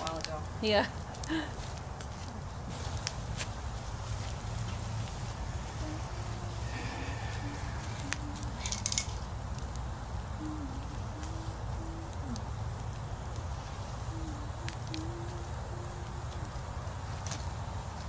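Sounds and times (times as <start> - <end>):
fire crackling and popping: 0.0 - 18.0
wood fire rumbling: 0.0 - 18.0.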